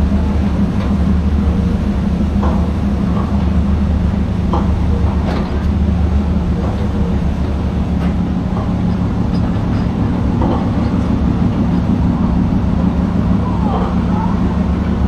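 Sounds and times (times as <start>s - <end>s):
ship diesel engines rumbling: 0.0s - 15.0s.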